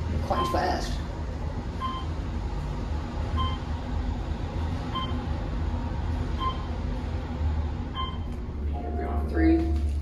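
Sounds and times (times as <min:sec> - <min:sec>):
elevator travel rumble: 0:00.0 - 0:10.0.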